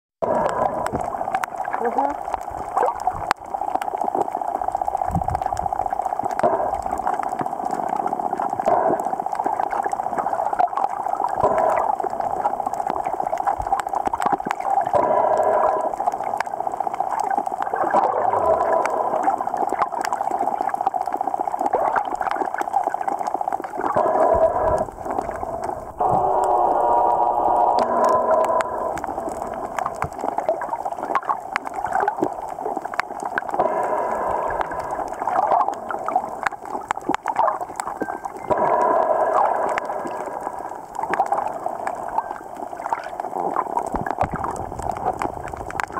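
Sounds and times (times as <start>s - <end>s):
gurgling bursts: 0.2s - 45.9s
muffled underwater hum: 0.2s - 45.9s
fine crackle: 0.3s - 45.9s.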